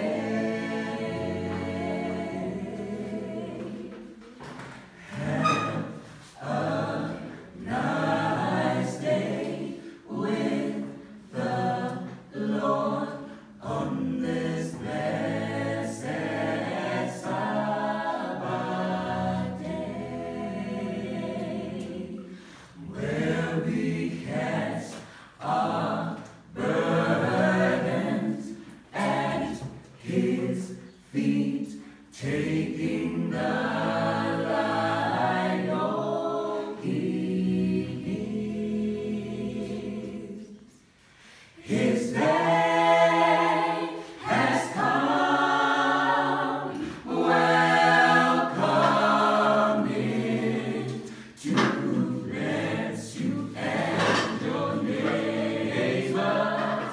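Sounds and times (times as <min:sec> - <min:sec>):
mixed choir singing a cappella: 0:00.0 - 0:56.9.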